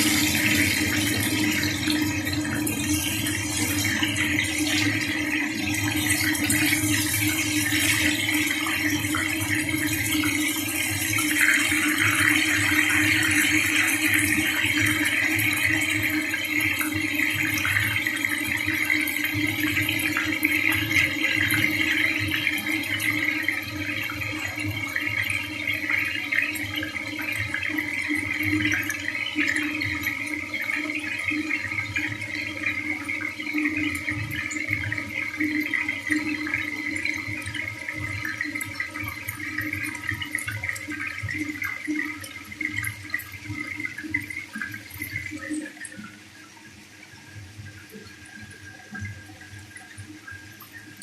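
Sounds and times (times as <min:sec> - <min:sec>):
chicken frying in hot oil: 0:00.0 - 0:51.0.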